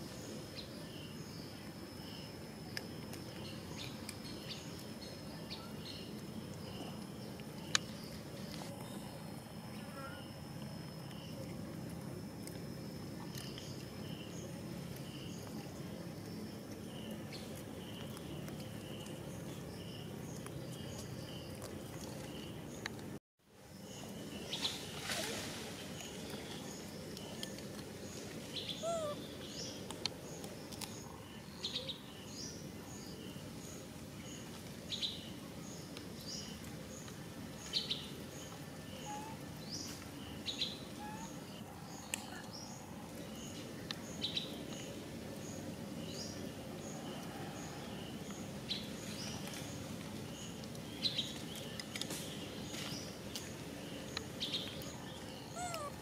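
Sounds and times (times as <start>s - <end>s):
outdoor background: 0.0s - 56.0s.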